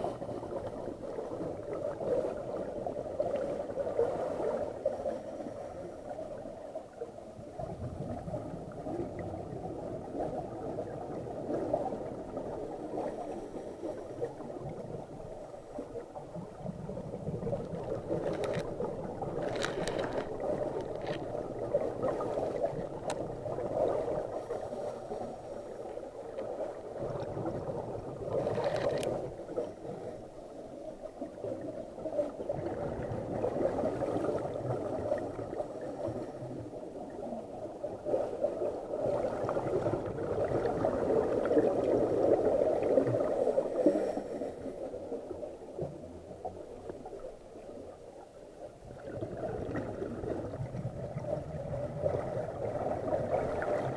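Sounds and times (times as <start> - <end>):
scuba exhaled bubbles gurgling: 0.0 - 53.9.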